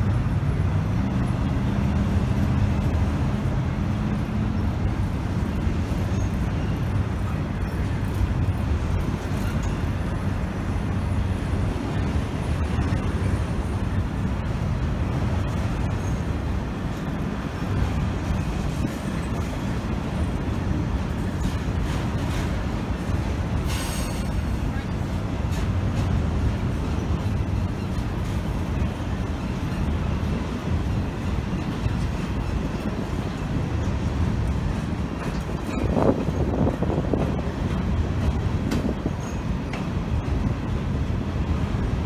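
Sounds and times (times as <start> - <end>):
diesel locomotive engine drone: 0.0 - 42.0
freight train rumbling past: 0.0 - 42.0.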